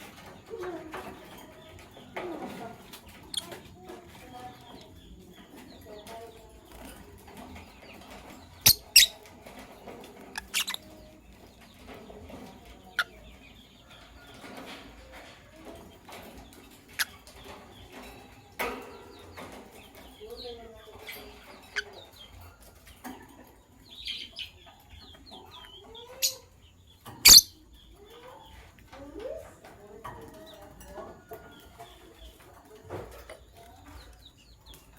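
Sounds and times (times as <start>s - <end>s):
lovebirds chattering: 0.0s - 34.9s.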